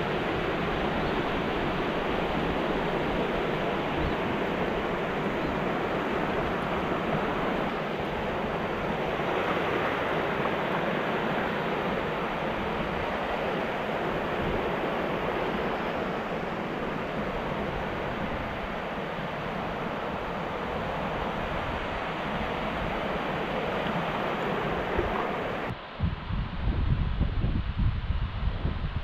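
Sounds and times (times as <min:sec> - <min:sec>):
small waves breaking: 0:00.0 - 0:25.7.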